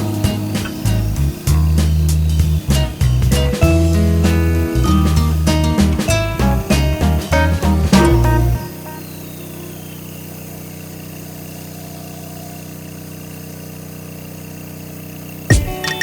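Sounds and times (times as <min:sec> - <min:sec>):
small gasoline engine idling: 0:00.0 - 0:16.0.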